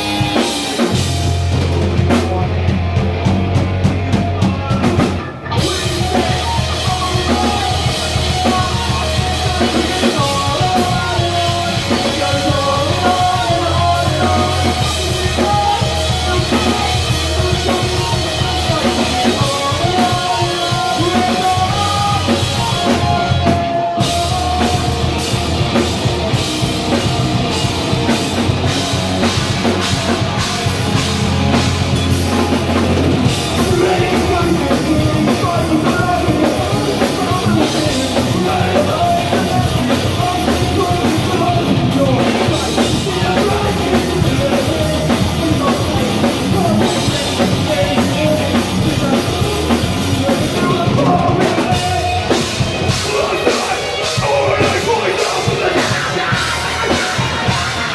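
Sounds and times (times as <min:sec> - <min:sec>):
bass guitar: 0:00.0 - 0:57.9
distorted electric guitars: 0:00.0 - 0:57.9
pounding drum kit: 0:00.0 - 0:57.9
rock band playing: 0:00.0 - 0:57.9
person singing: 0:04.2 - 0:25.6, 0:32.3 - 0:57.9.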